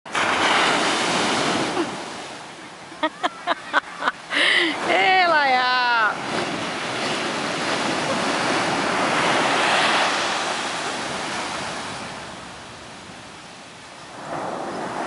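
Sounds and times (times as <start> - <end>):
ocean surf breaking on shore: 0.1 - 15.0.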